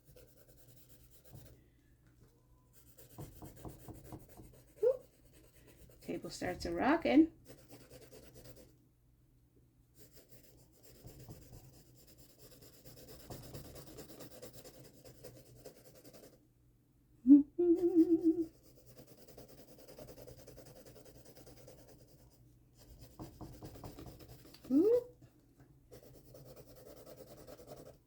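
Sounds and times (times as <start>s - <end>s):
pencil scratching on paper: 0.0s - 1.6s, 2.7s - 8.7s, 10.0s - 16.4s, 18.4s - 25.1s, 25.9s - 28.0s.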